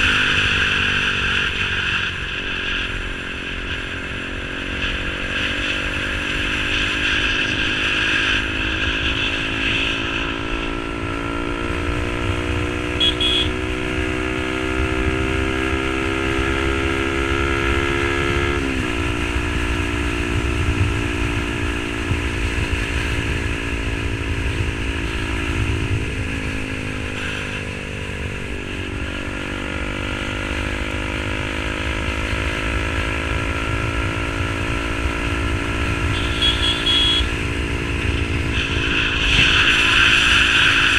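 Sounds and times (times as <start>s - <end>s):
motorcycle engine while riding: 0.0s - 40.9s
wind and road noise: 0.0s - 40.9s.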